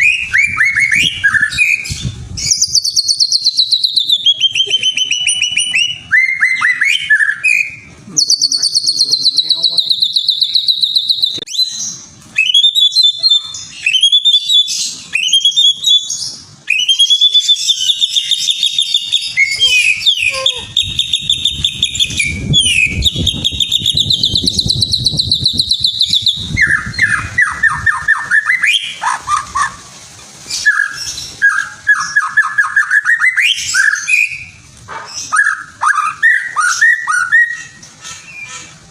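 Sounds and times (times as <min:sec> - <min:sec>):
songbird singing: 0:00.0 - 0:29.9, 0:30.5 - 0:38.8.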